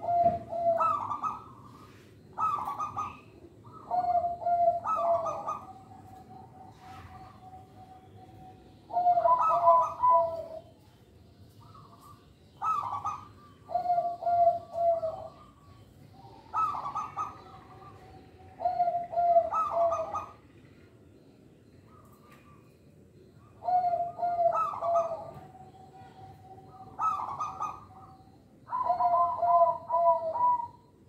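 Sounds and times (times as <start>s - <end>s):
dove cooing: 0.0s - 10.8s, 11.6s - 21.2s, 21.8s - 31.0s.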